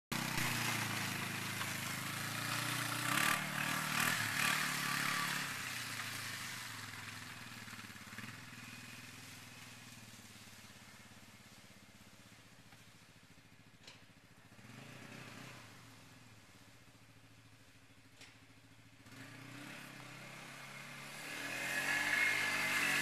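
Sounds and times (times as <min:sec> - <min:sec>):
quad bike engine revving: 0:00.1 - 0:10.6, 0:13.4 - 0:16.7, 0:18.2 - 0:23.0.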